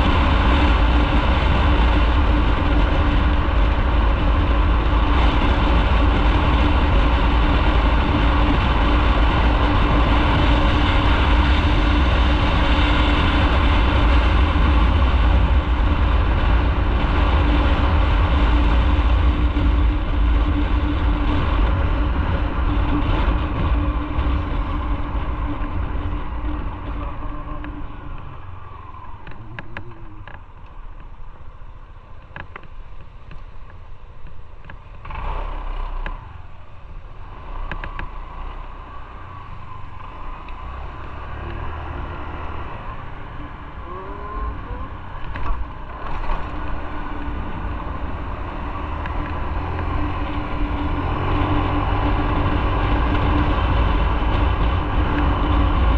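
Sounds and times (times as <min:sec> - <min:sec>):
motorcycle engine: 0:00.0 - 0:55.9
road and wind noise: 0:00.0 - 0:55.9.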